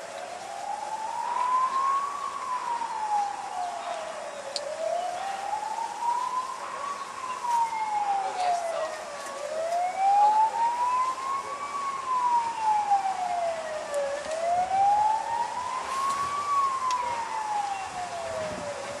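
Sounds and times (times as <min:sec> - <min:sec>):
emergency siren wailing: 0:00.0 - 0:19.0.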